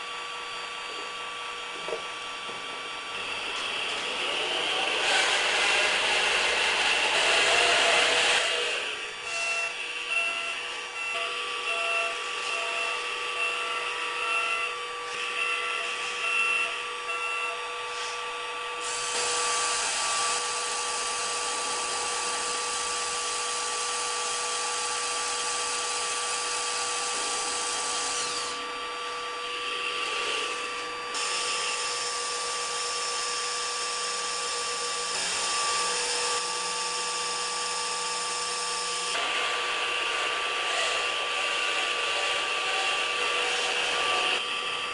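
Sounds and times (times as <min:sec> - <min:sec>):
toy excavator motors whirring: 0:03.2 - 0:44.9.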